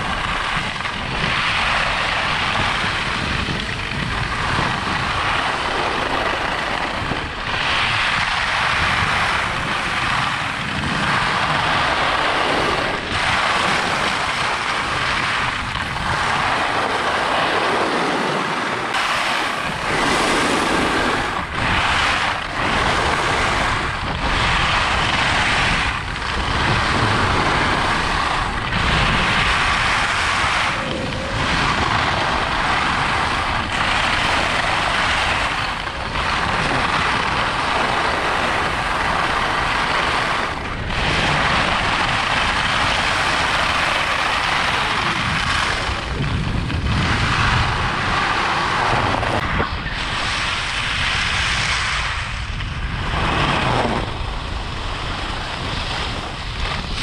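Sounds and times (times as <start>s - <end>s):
skis scraping on snow: 0.0s - 57.0s
wind on microphone: 0.0s - 57.0s.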